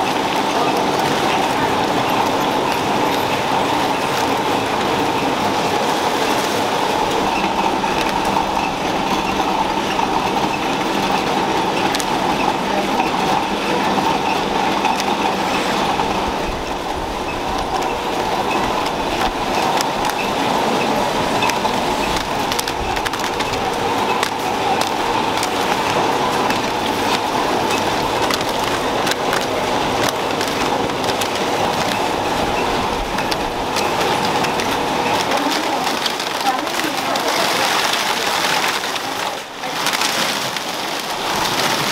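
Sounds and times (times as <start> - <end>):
machinery whirring: 0.0 - 41.9.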